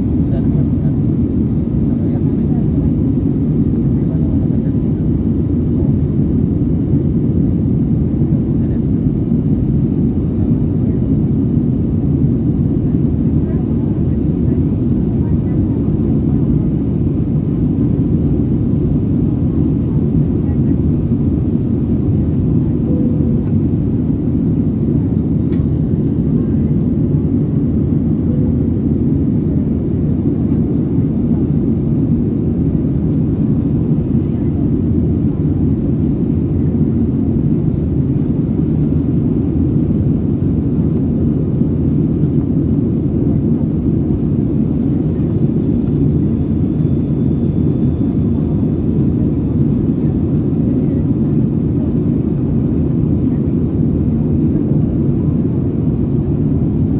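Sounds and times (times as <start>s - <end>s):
airliner cabin low rumble: 0.0s - 56.9s.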